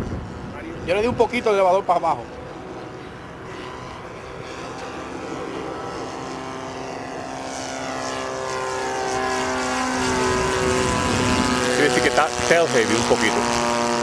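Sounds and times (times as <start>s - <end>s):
model plane engine drone: 0.0s - 14.0s.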